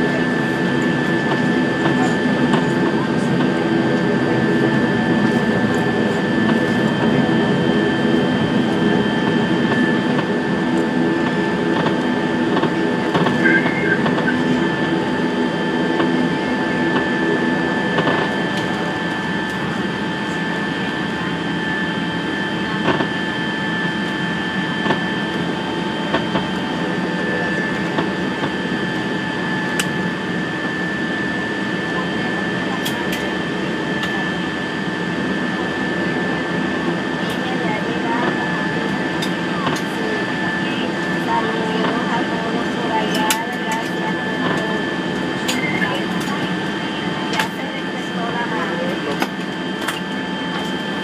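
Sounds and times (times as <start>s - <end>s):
turboprop engine whine in cabin: 0.0s - 51.0s.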